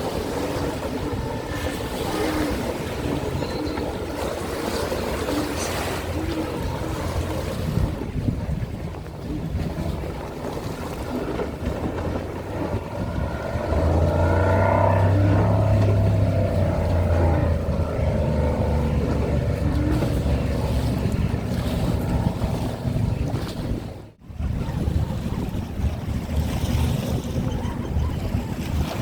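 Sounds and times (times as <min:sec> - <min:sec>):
jet ski engines passing: 0:00.0 - 0:29.0
wind on microphone: 0:00.0 - 0:29.0.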